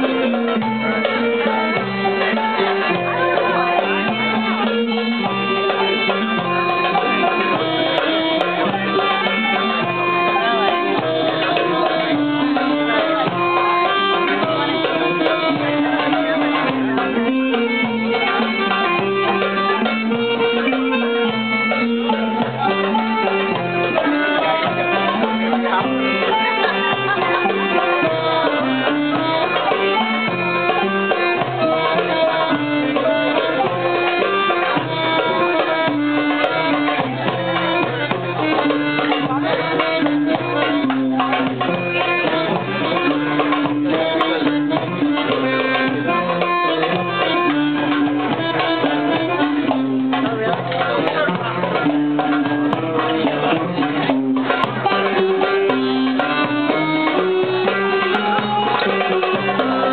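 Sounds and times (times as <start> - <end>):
hand drum rhythm: 0.0 - 59.9
oud and melody instruments: 0.0 - 59.9.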